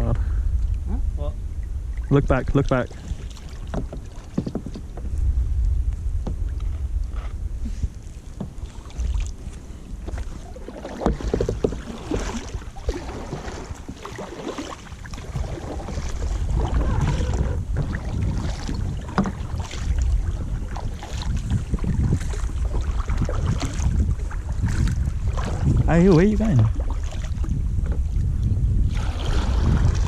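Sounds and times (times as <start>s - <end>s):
wind rumbling on microphone: 0.0s - 30.0s
paddle strokes splashing water: 1.9s - 5.2s, 6.3s - 30.0s.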